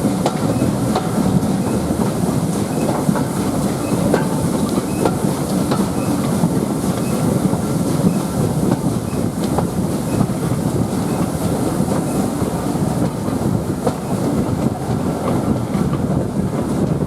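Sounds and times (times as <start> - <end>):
train rumbling on rails: 0.0 - 17.0
wheels clicking over rail joints: 0.0 - 17.0.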